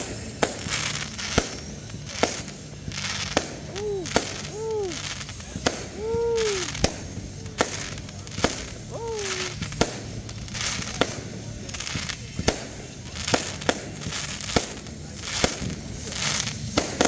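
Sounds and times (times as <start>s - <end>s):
fireworks bursting with sharp bangs: 0.0s - 17.0s
fireworks hissing: 0.0s - 17.0s.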